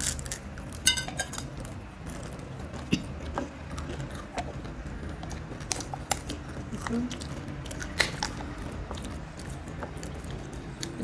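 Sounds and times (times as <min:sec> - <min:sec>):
crunching crispy noodle snack: 0:00.0 - 0:11.0.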